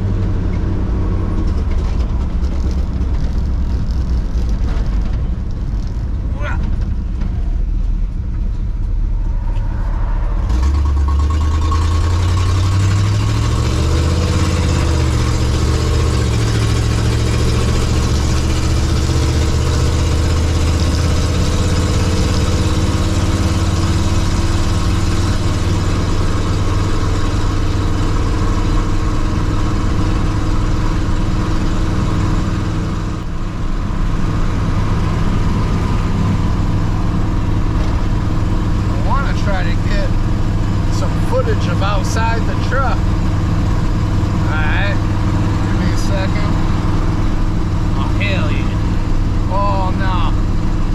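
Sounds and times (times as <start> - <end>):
pickup truck engine driving: 0.0 - 50.9.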